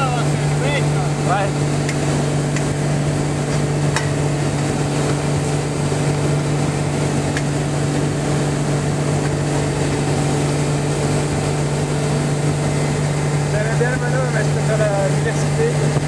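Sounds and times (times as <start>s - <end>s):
motorboat engine drone: 0.0s - 16.0s
rushing water: 0.0s - 16.0s
wind: 0.0s - 16.0s.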